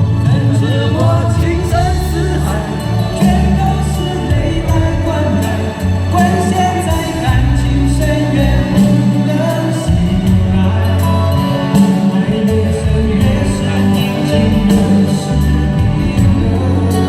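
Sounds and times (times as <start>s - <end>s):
bass line: 0.0s - 17.0s
live band music: 0.0s - 17.0s.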